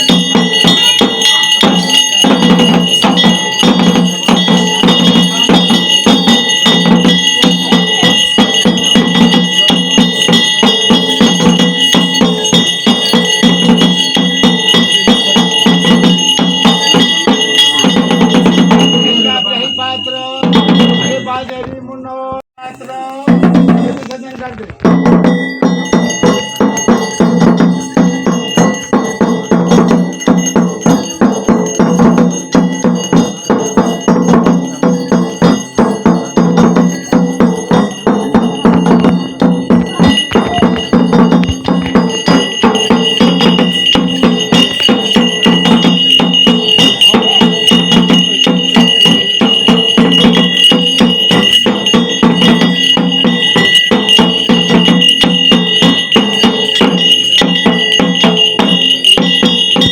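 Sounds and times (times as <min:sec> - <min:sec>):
high ringing tone: 0:00.0 - 0:22.2, 0:24.9 - 0:59.9
bells ringing rapidly: 0:00.0 - 0:59.9.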